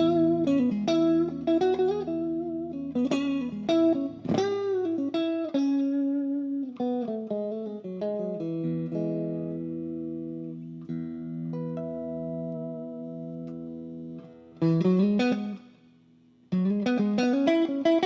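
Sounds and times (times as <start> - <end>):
electric guitar single-note line: 0.0 - 15.8, 16.5 - 18.0.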